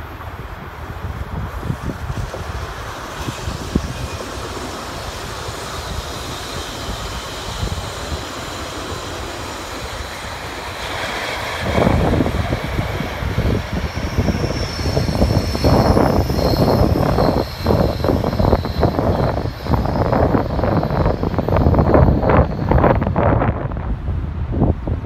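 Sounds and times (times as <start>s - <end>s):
train rumbling past: 0.0s - 25.0s
wind buffeting microphone: 0.0s - 25.0s
wheels squealing: 1.7s - 23.8s.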